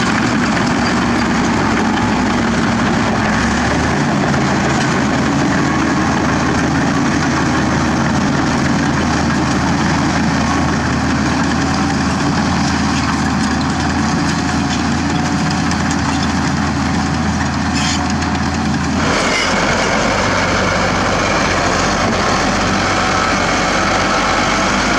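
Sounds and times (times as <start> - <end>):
bulldozer diesel engine running: 0.0 - 24.9.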